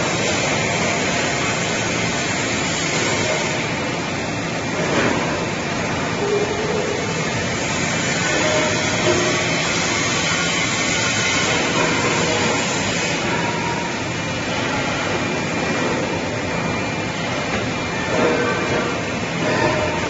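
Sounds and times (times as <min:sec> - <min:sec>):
rushing welding machine noise: 0:00.0 - 0:20.0.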